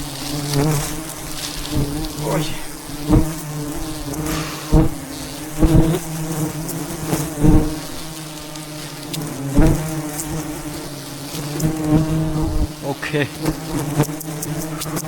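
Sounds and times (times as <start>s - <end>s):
bees buzzing: 0.0s - 15.0s
loud bee buzzes: 0.0s - 15.0s.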